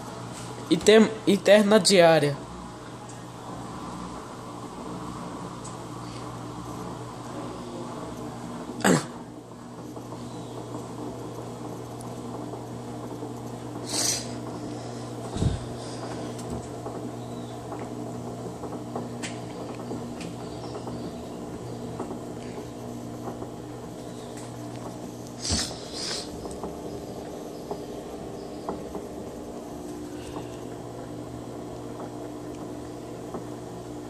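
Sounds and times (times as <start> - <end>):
washing machine humming: 0.0 - 34.0.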